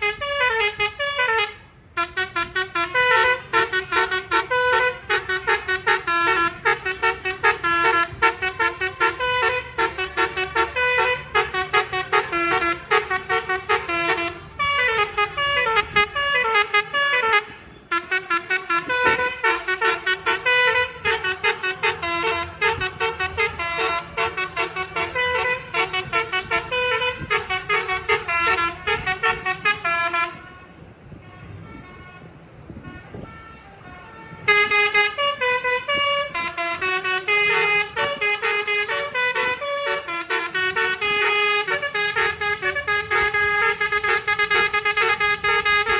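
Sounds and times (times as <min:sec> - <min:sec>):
multi-tone bus horn melody: 0:00.0 - 0:45.9.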